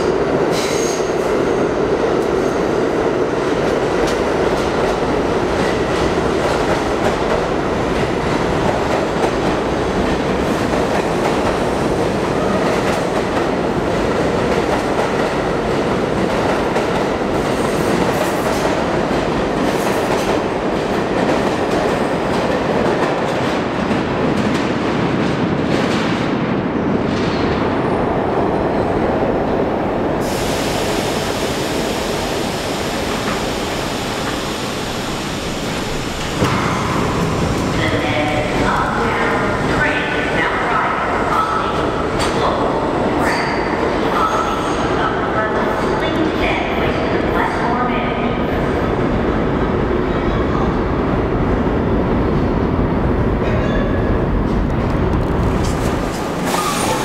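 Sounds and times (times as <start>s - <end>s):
subway train rumbling in tunnel: 0.0s - 57.0s.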